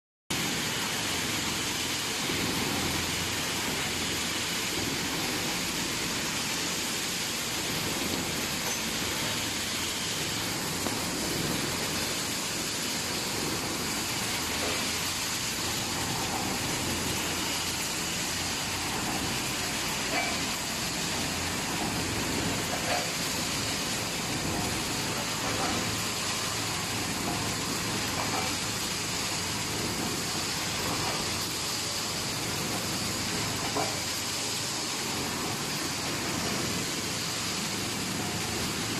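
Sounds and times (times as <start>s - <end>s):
welding machine running: 0.3s - 38.9s.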